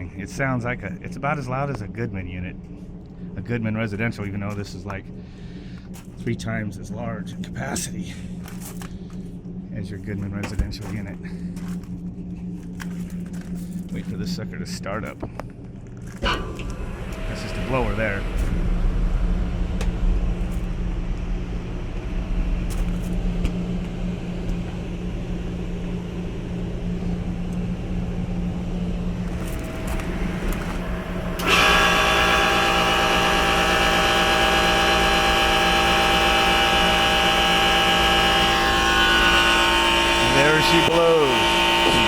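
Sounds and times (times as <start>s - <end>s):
compressor whining drone: 0.0s - 42.0s
blower humming: 2.2s - 42.0s.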